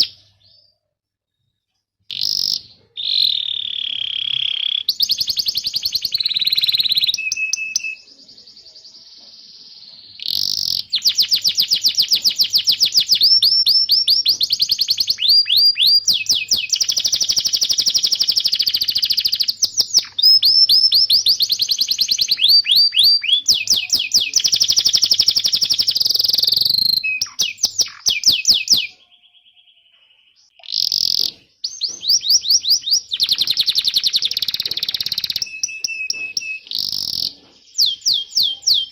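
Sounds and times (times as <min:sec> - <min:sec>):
canary trilling song: 0:00.0 - 0:38.9.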